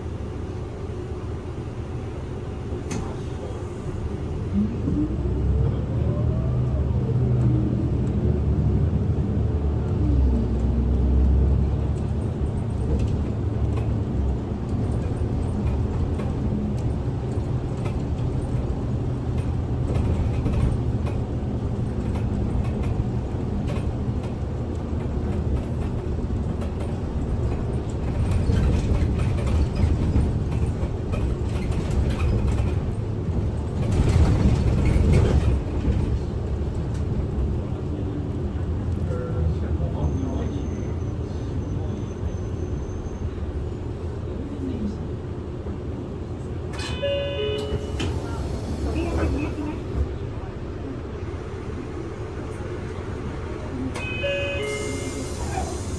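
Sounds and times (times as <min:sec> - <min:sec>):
road rumble: 0:00.0 - 0:54.0
bus engine hum: 0:00.0 - 0:55.9.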